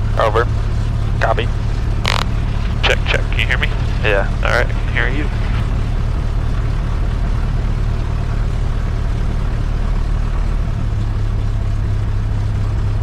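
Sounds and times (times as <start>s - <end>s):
propeller plane engine idling: 0.0s - 13.0s.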